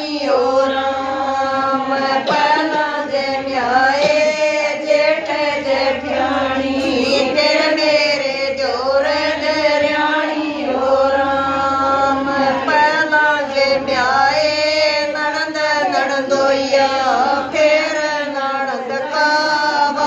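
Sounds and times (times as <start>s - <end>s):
women singing devotional song: 0.0s - 20.0s.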